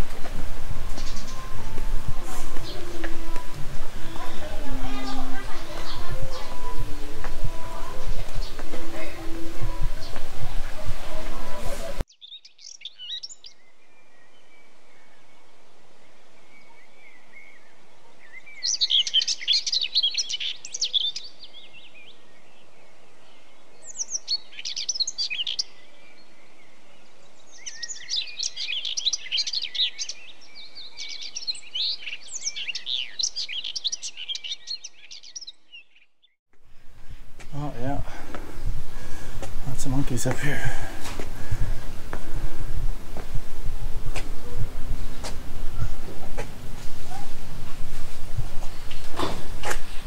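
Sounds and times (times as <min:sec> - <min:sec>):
faint background noise: 0:00.0 - 0:35.4, 0:36.6 - 0:50.0
small birds chirping: 0:00.0 - 0:36.4, 0:37.0 - 0:50.0.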